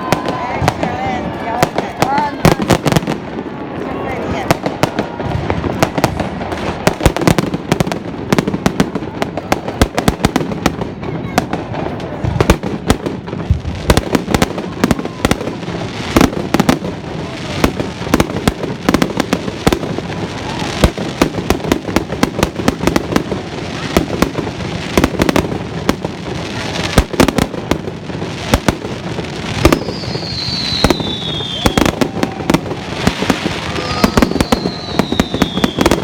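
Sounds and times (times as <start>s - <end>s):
fireworks exploding: 0.0s - 36.0s.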